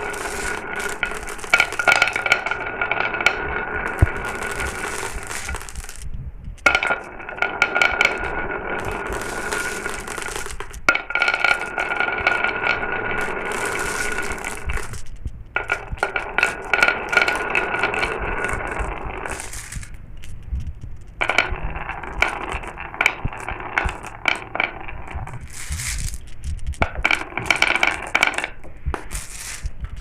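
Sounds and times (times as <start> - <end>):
marbles clicking together: 0.0 - 30.0
marbles rolling down track: 0.0 - 30.0.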